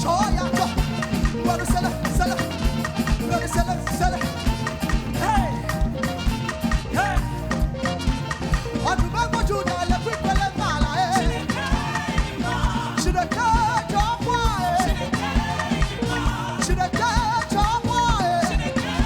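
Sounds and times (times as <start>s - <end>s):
person singing: 0.0s - 5.8s, 8.8s - 19.0s
upbeat band music: 0.0s - 19.0s.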